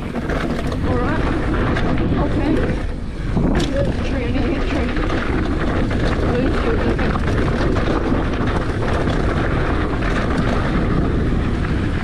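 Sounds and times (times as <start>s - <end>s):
bike clattering over ground: 0.0s - 12.0s
bike tyre noise: 0.0s - 12.0s
wind buffeting microphone: 0.0s - 12.0s.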